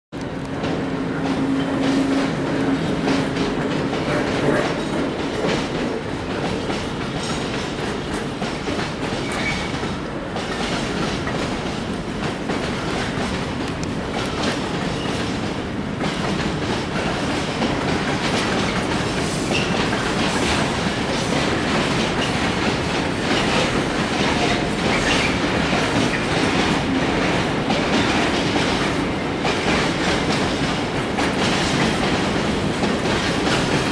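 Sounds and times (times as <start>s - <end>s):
train wheels clattering over rail joints: 0.3s - 33.9s.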